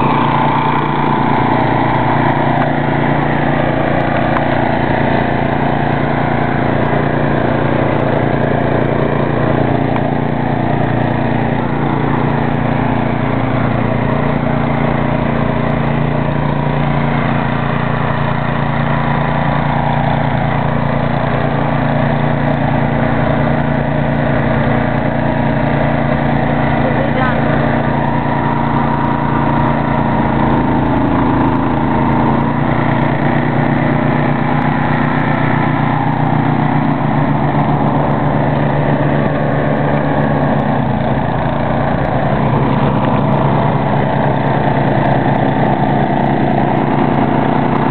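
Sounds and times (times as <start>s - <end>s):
snow thrower engine running: 0.0s - 47.9s.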